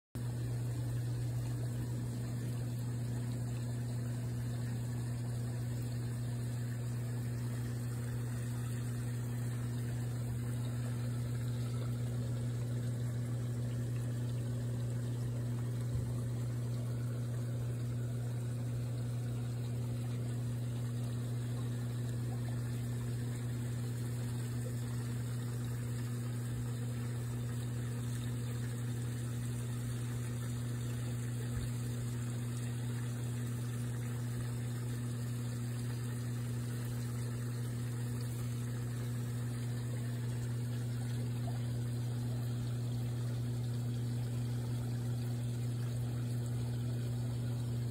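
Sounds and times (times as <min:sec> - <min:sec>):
motor humming: 0:00.2 - 0:47.9.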